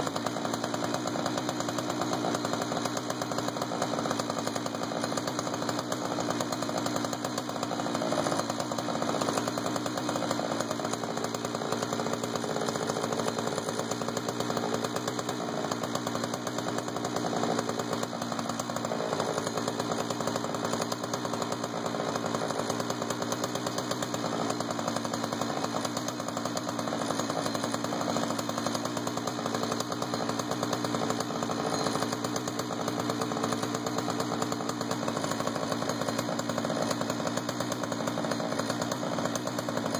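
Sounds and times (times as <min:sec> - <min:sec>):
chainsaw cutting wood under load: 0:00.0 - 0:39.9.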